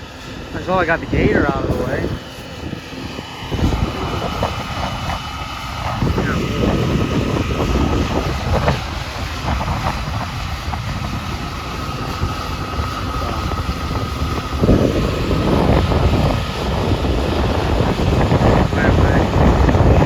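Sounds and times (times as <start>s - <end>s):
faint steady whine: 0.0s - 20.0s
low engine rumble: 0.0s - 20.0s.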